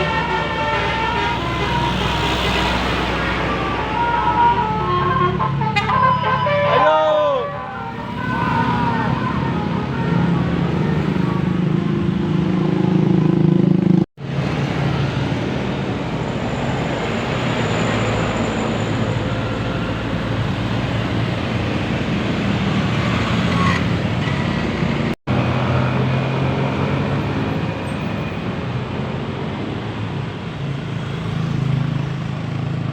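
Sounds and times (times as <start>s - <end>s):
buses passing: 0.0s - 32.9s.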